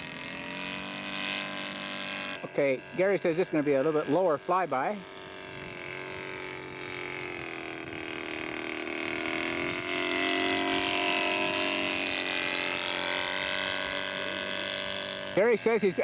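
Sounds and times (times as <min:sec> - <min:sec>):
model airplane engine flyby: 0:00.0 - 0:16.0.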